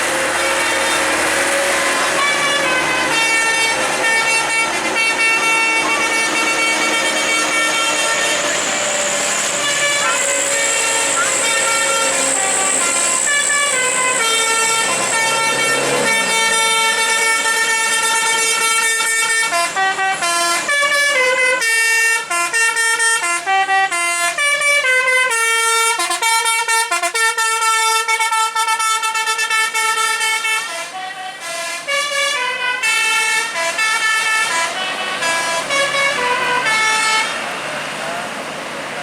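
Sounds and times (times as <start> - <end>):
musical air horn playing a tune: 0.0 - 37.5.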